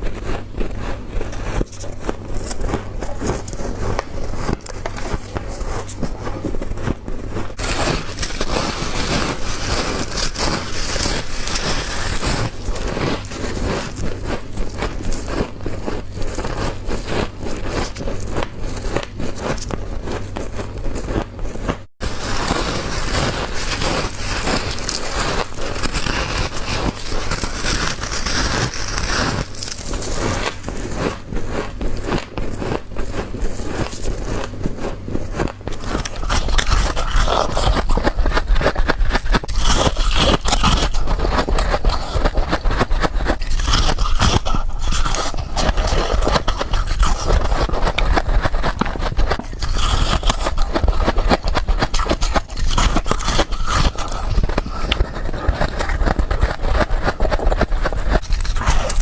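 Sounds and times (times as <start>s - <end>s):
chewing frost crunching: 0.0s - 59.0s.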